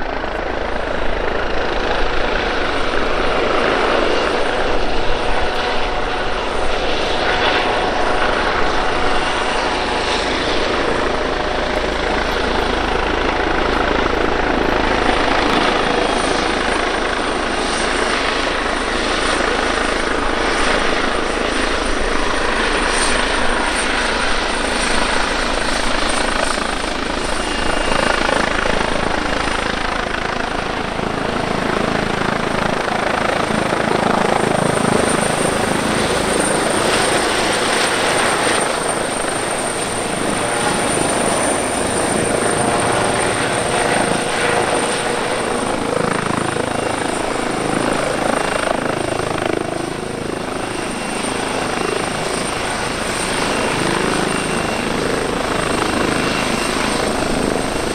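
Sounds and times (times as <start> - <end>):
helicopter rotor: 0.0 - 57.9
high-pitched turbine whine: 0.0 - 57.9.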